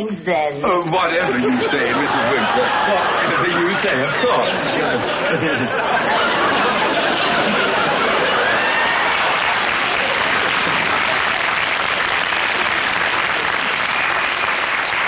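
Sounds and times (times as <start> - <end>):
audience applauding: 1.3 - 15.0.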